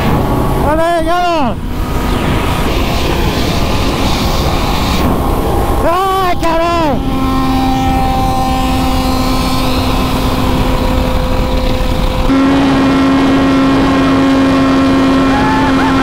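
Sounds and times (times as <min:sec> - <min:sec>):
heavy wind rush: 0:00.0 - 0:16.0
motorcycle engine at full throttle: 0:00.0 - 0:16.0.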